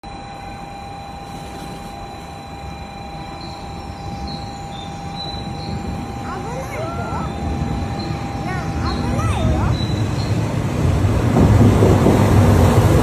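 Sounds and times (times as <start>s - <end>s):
high whine: 0.0s - 13.0s
train rumble: 0.0s - 13.0s.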